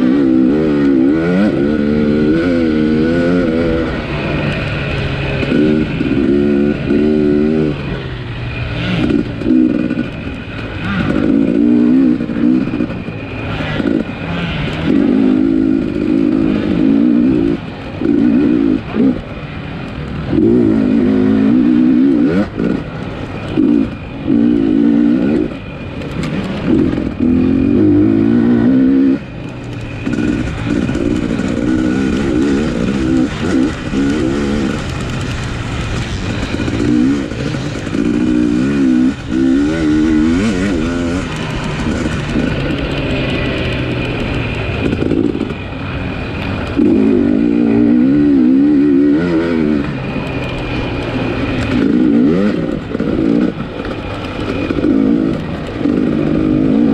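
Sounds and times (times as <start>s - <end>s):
motorcycle engine revving hard: 0.0s - 56.9s.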